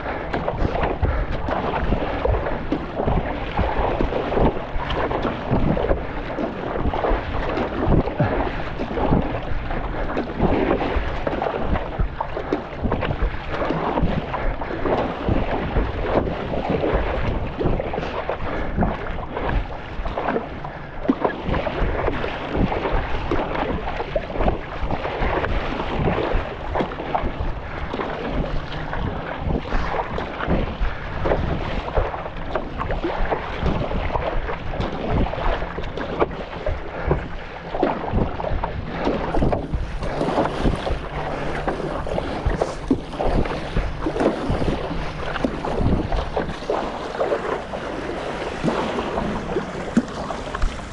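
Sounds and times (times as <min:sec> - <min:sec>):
water splashing around paddleboard: 0:00.0 - 0:50.9
wind buffeting microphone: 0:00.0 - 0:50.9.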